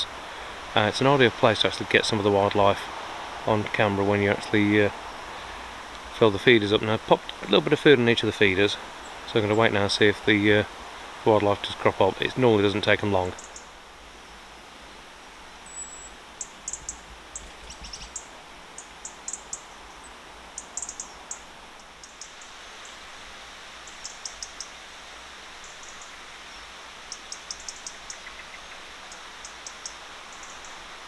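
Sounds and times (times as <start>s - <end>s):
small birds chirping: 0.0s - 23.1s, 23.8s - 24.9s, 25.5s - 31.0s
steady outdoor hiss: 0.0s - 31.0s.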